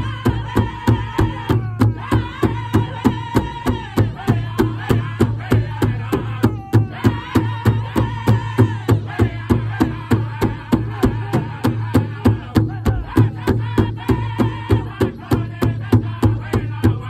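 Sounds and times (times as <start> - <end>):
large drum beating: 0.0 - 17.0
men singing high held notes: 0.0 - 17.0.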